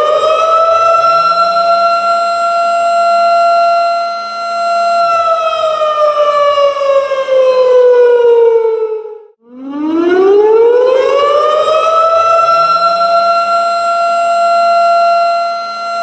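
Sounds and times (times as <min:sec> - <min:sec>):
tornado siren wailing: 0:00.0 - 0:16.0.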